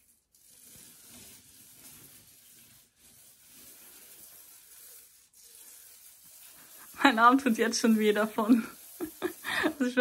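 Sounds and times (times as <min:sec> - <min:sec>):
paint roller sticky hiss: 0:00.0 - 0:10.0.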